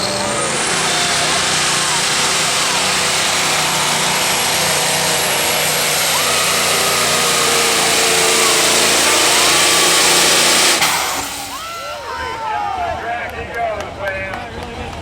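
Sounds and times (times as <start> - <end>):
diesel truck engine at full throttle: 0.0 - 15.0.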